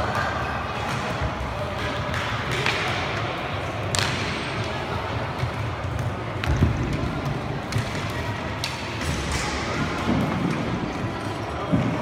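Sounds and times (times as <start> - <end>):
sticks and puck clacking: 0.0 - 4.8, 5.4 - 12.0.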